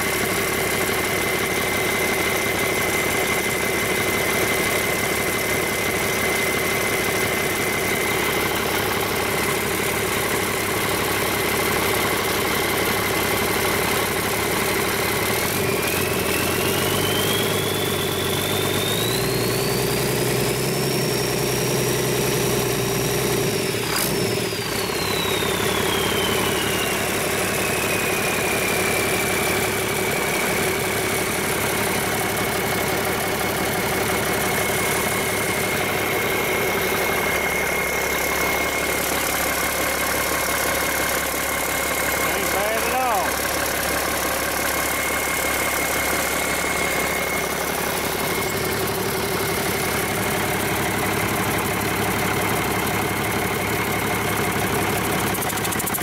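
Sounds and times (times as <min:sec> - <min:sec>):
diesel engine idling and revving: 0:00.0 - 0:56.0
high engine whine: 0:00.0 - 0:56.0.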